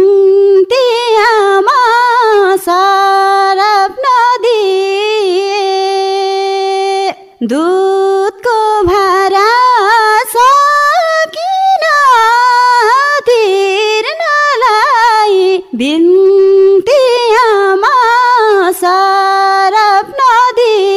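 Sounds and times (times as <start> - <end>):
woman singing unaccompanied: 0.0 - 20.9.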